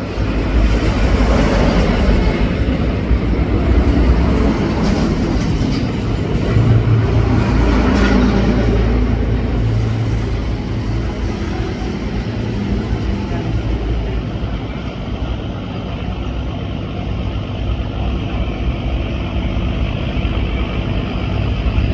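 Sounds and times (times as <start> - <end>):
engine rumbling: 0.0 - 21.9.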